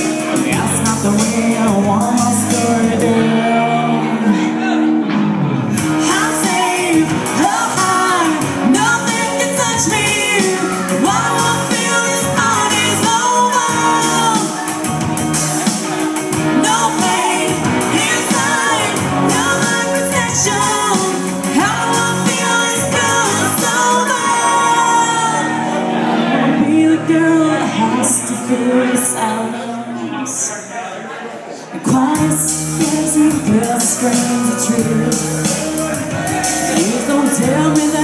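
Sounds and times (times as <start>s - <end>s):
woman singing pop ballad: 0.0s - 4.3s, 5.8s - 14.8s, 16.4s - 30.5s, 31.8s - 35.7s, 36.6s - 38.0s
karaoke backing track: 0.0s - 38.0s.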